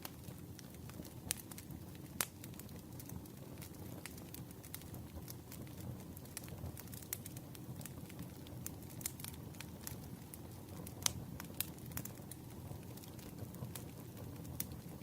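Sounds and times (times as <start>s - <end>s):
campfire flame rumble: 0.0s - 15.0s
wood crackling and popping: 0.0s - 15.0s.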